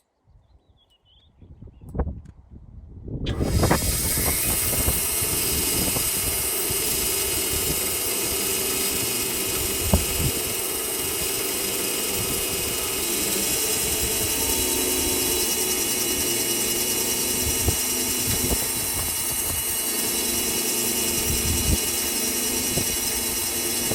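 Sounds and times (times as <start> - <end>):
band sawmill running: 3.3 - 23.9.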